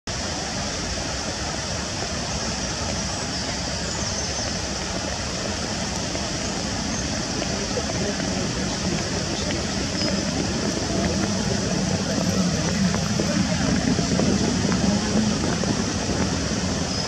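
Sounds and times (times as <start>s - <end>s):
waterfall splashing onto rocks: 0.1s - 17.0s.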